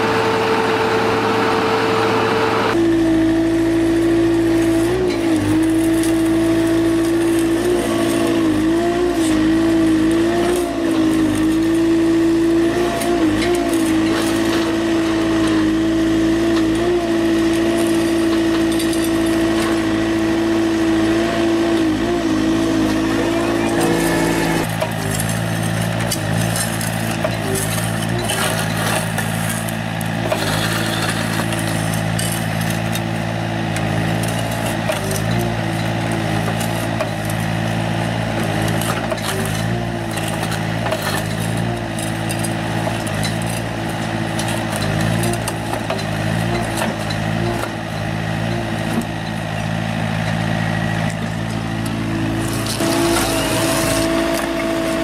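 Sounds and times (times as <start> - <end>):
cutter wheel grinding asphalt: 0.0 - 55.0
excavator diesel engine: 0.0 - 55.0.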